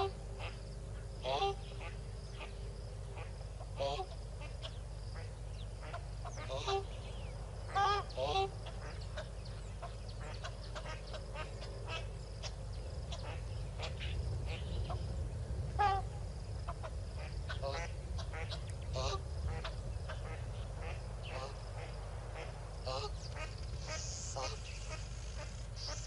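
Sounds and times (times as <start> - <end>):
duck quacking: 1.2 - 7.0, 7.7 - 15.0, 15.8 - 26.0.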